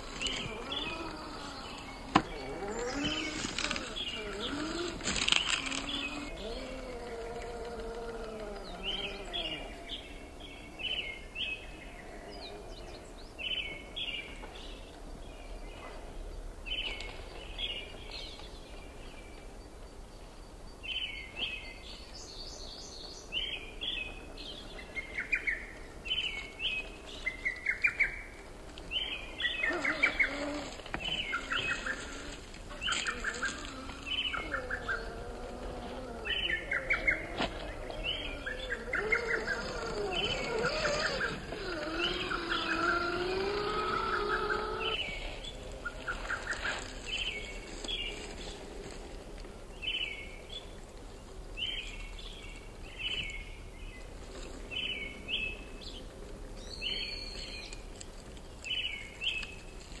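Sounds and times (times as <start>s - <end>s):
songbirds chirping and singing: 0.0s - 60.0s.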